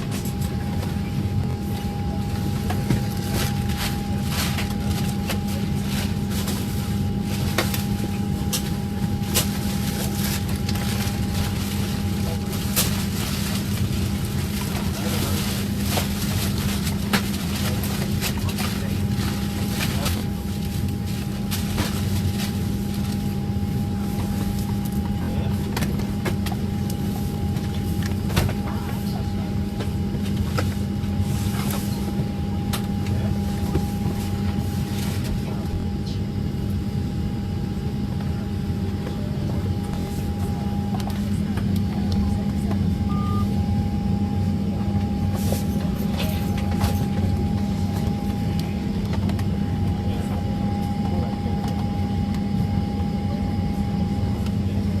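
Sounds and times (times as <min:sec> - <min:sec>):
airliner cabin drone: 0:00.0 - 0:55.0
thin steady whine: 0:00.0 - 0:55.0.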